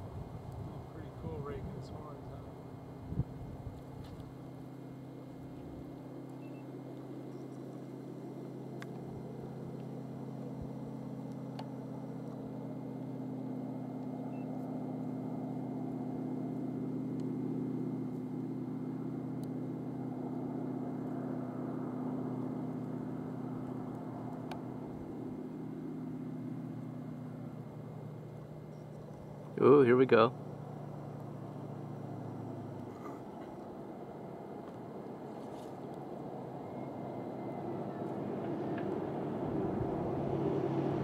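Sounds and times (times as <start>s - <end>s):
engine idling hum: 0.0s - 41.0s.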